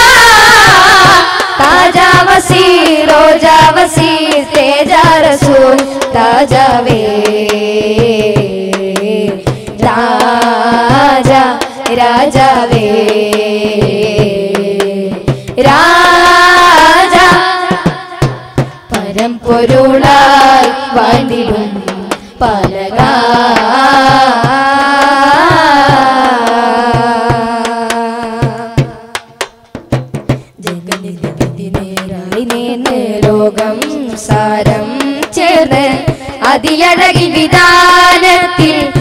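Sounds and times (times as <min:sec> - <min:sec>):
drum beat: 0:00.0 - 0:39.0.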